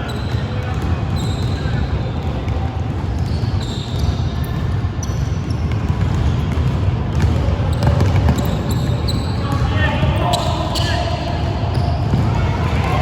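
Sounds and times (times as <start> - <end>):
sneaker squeaks: 0.0 - 13.0
basketball bouncing: 0.1 - 13.0.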